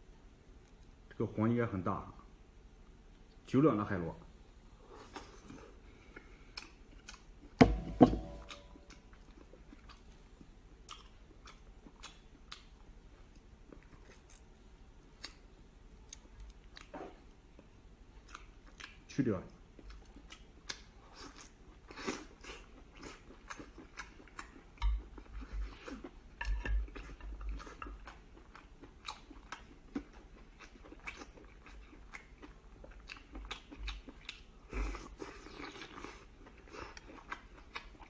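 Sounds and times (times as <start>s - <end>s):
chewing and lip-smacking: 5.1s - 7.6s, 8.4s - 19.1s, 19.7s - 38.0s.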